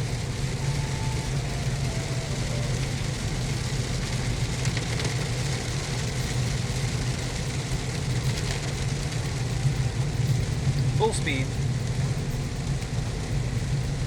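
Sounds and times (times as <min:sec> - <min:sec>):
car engine idling: 0:00.0 - 0:14.0
heavy rain hissing: 0:00.0 - 0:14.0
windshield wipers running: 0:00.0 - 0:14.0.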